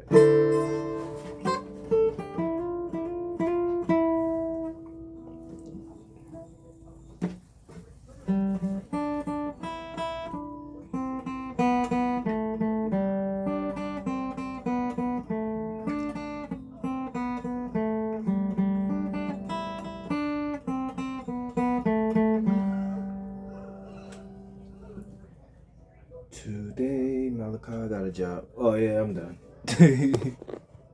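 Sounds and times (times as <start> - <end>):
acoustic guitar plucked melody: 0.0 - 25.3.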